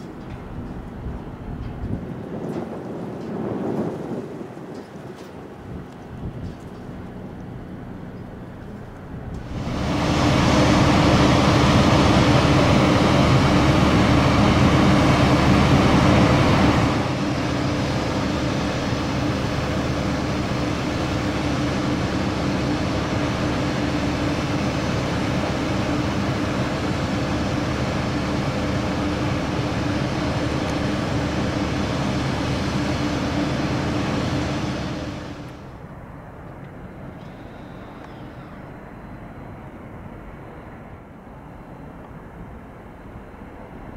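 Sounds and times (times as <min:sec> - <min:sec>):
aircraft engines whining: 0:00.0 - 0:43.9
wind: 0:00.0 - 0:43.9.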